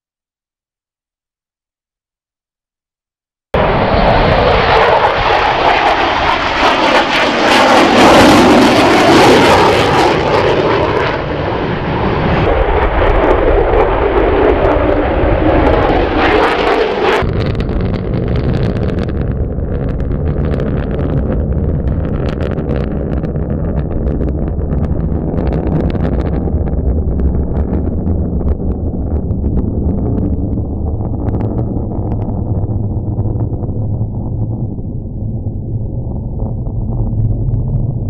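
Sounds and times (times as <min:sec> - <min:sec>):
jet engine roar: 0:03.6 - 0:38.0.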